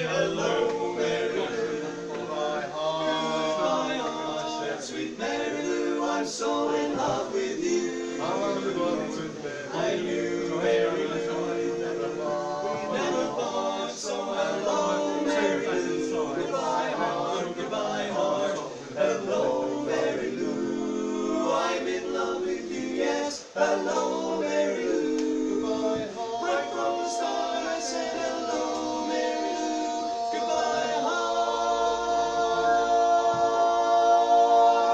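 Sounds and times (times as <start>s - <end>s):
male vocal quartet singing: 0.0s - 34.9s.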